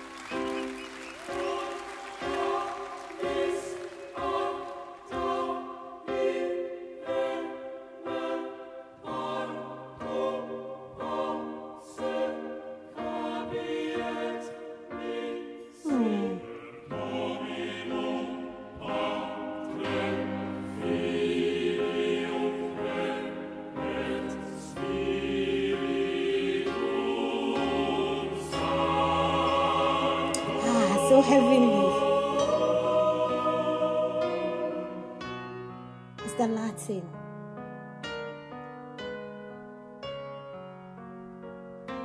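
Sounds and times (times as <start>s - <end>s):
choir and orchestra playing ballad: 0.0s - 36.6s.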